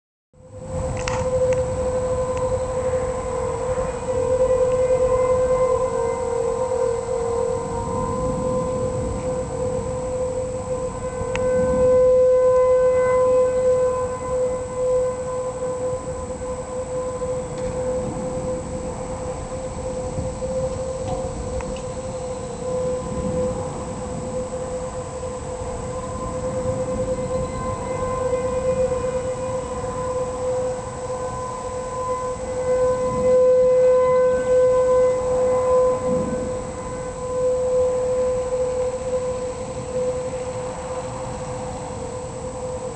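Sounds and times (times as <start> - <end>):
warning siren steady tone: 0.4 - 42.9.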